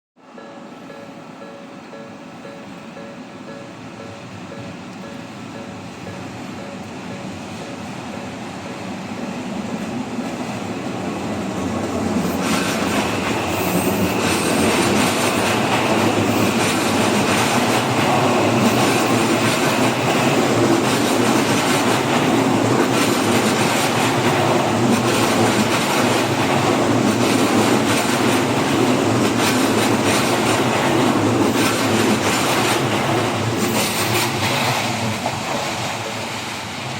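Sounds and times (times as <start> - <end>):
electric train passing: 0.2 - 36.9.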